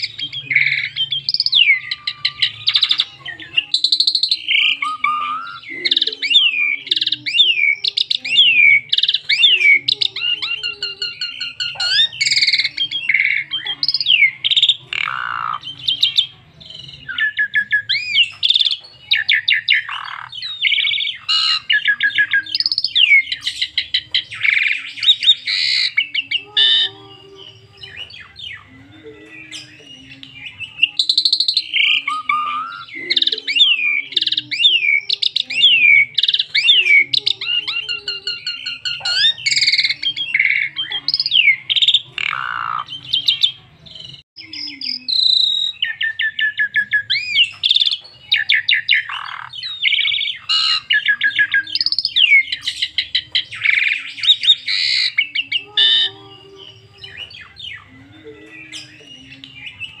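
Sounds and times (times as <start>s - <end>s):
myna bird singing: 0.0s - 60.0s.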